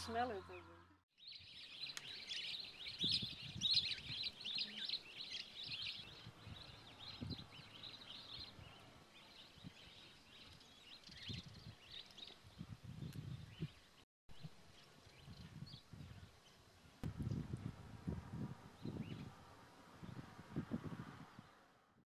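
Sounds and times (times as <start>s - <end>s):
small birds chirping: 0.0s - 17.6s, 18.8s - 19.3s.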